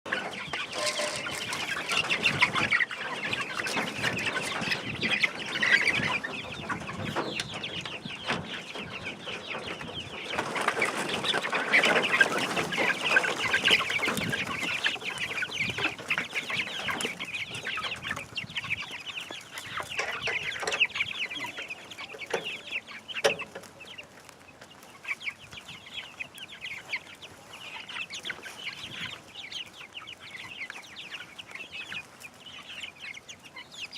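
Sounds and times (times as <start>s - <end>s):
chickens clucking: 0.0s - 33.9s.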